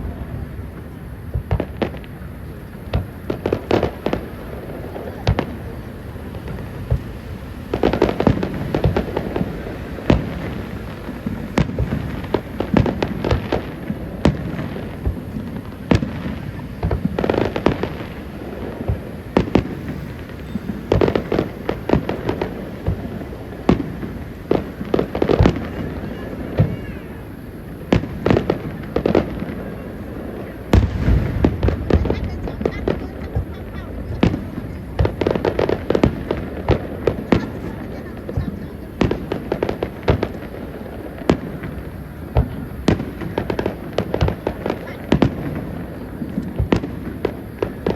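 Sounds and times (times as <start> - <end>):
fireworks cracks and booms: 0.0 - 47.9.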